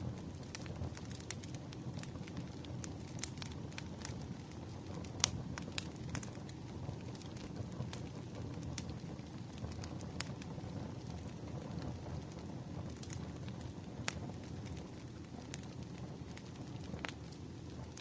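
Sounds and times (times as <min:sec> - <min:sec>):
fire low rumble: 0:00.0 - 0:18.0
firewood crackling and popping: 0:00.0 - 0:18.0.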